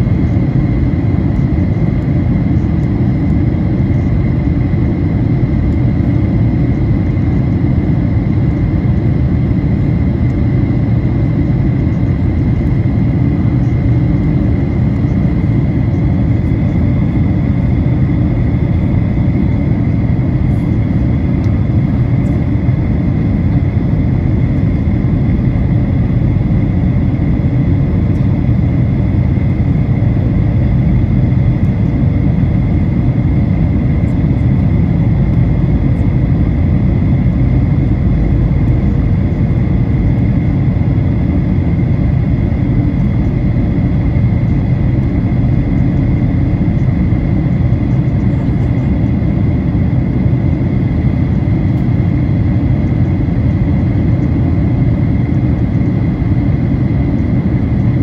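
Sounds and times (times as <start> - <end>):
jet cabin rumble: 0.0 - 58.0
thin steady whine: 0.0 - 58.0.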